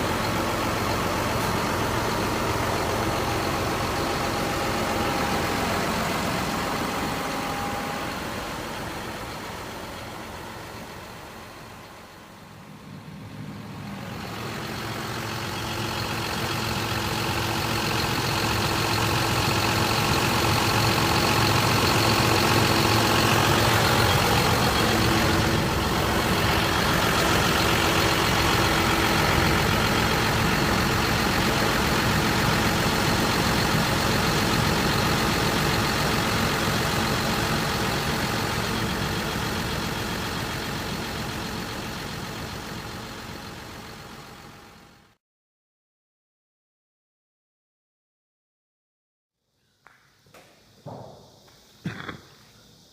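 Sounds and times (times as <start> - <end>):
farm machine engine running: 0.0 - 45.2.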